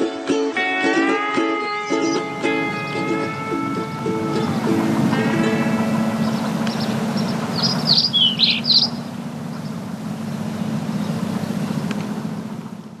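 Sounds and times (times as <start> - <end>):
small bird chirping: 1.6 - 13.0
steady low rumble: 2.1 - 13.0.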